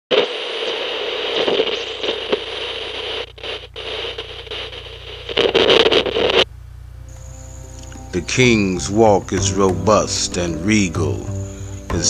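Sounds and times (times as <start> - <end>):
crackling hissing static: 0.1 - 12.0.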